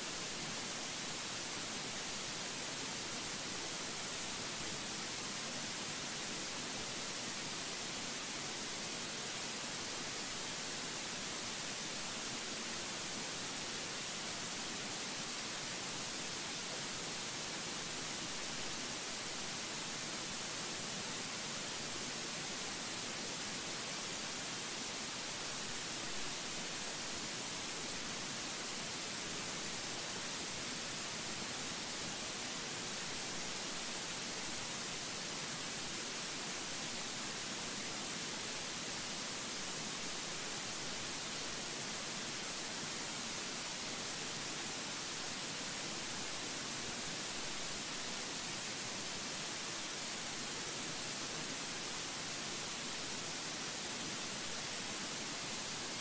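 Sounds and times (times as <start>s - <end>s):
steady bright hiss: 0.0s - 56.0s.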